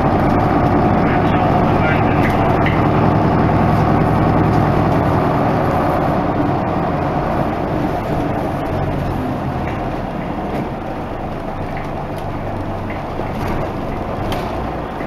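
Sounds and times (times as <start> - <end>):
diesel bus engine hum: 0.0 - 15.0
road noise: 0.0 - 15.0.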